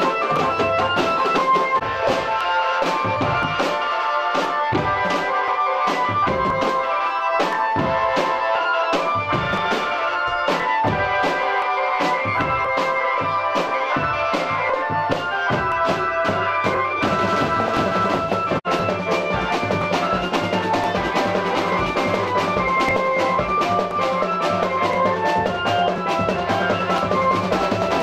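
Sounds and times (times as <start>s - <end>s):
music with drums and beat: 0.0s - 28.0s.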